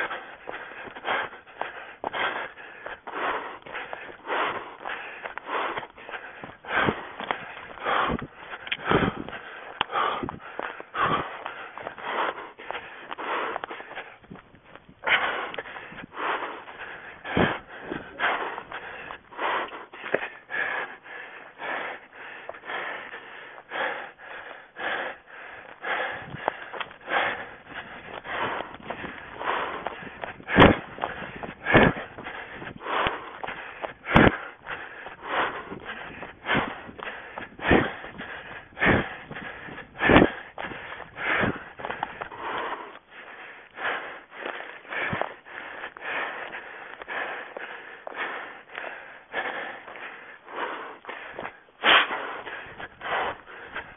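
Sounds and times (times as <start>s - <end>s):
person breathing heavily: 0.0s - 53.9s.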